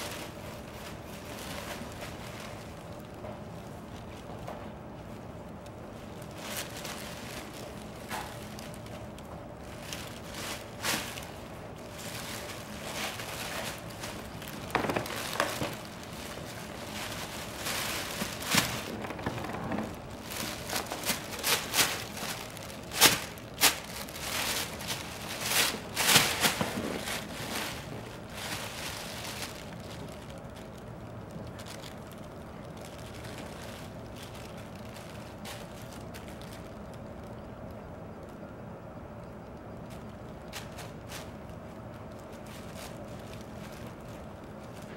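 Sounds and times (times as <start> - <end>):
plastic bag crinkling: 0.0 - 38.5, 39.5 - 44.9.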